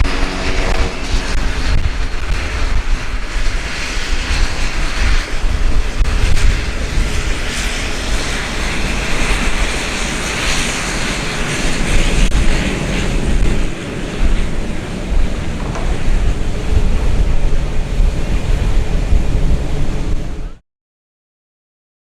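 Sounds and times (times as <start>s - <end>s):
aircraft engines running: 0.0s - 20.6s.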